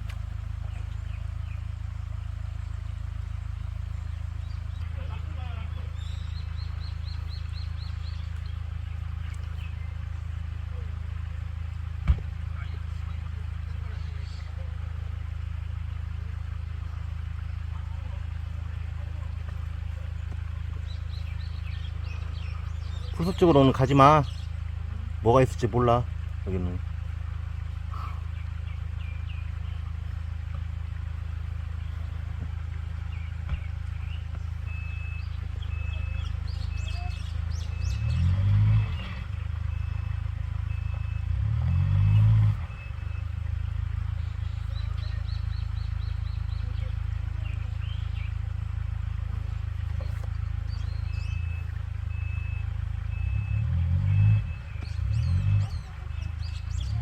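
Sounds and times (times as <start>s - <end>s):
birds chirping: 0.0s - 57.0s
off-road vehicle engine revving: 0.0s - 57.0s.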